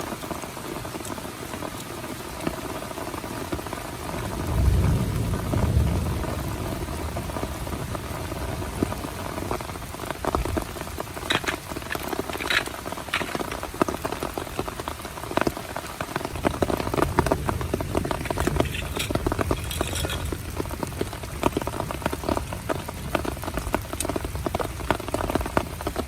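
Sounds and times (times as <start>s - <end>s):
heavy rain on a tent: 0.0s - 26.0s.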